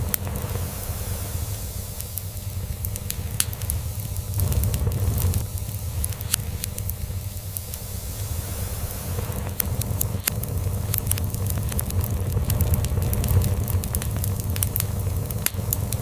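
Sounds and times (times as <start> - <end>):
log fire crackling and popping: 0.0 - 16.0.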